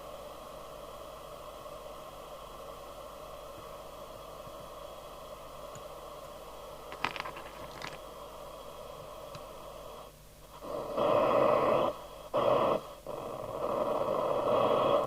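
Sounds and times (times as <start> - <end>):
radio loudspeaker hiss: 0.0 - 15.0.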